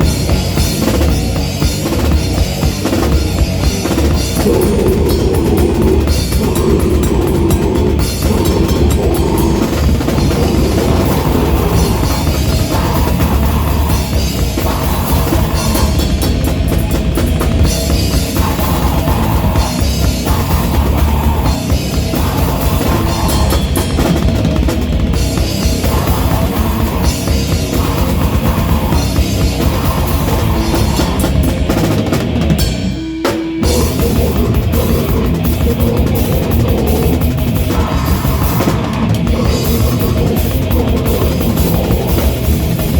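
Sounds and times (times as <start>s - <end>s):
drum kit fast beat: 0.0s - 42.9s
rock band playing live: 0.0s - 42.9s.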